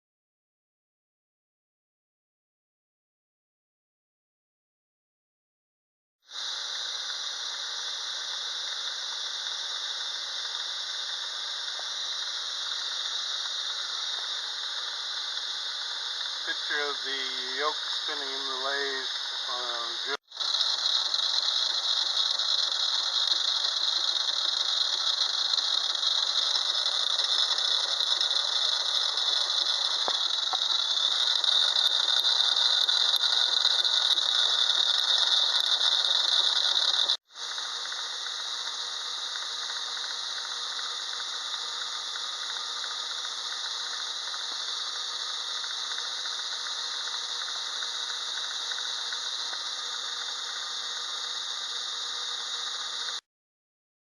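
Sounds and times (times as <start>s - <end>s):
lathe whirring with rattle: 6.4s - 53.2s.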